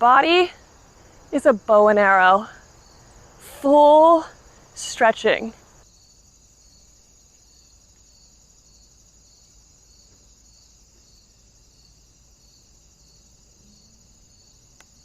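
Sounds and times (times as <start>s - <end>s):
high-pitched insect trill: 0.0s - 15.0s
soft insect chirp: 0.0s - 15.0s.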